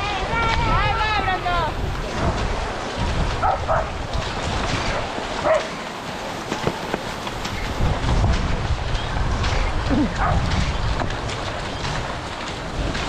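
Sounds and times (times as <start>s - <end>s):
skis sliding in snow tracks: 0.0s - 13.0s
wind rumble on microphone: 0.0s - 13.0s.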